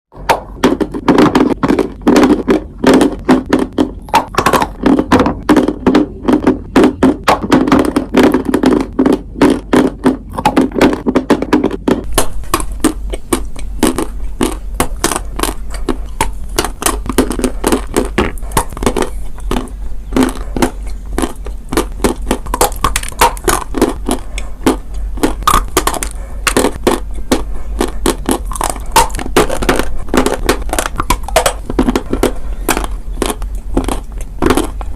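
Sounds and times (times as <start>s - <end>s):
chewing dry chalk crunching: 0.2s - 34.9s.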